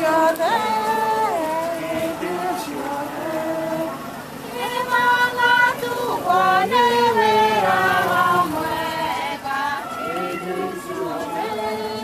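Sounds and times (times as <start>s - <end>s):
mourners singing unaccompanied: 0.0s - 12.0s.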